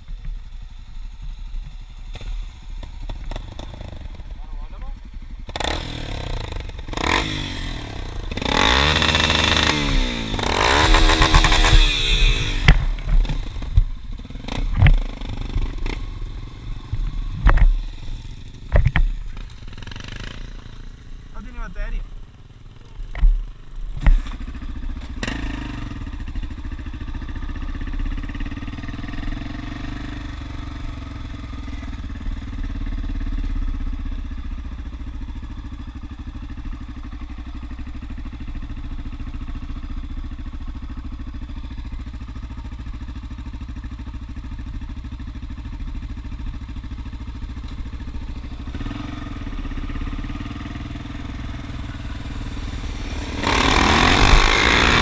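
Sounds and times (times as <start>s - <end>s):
dirt bike engines running: 0.0s - 55.0s.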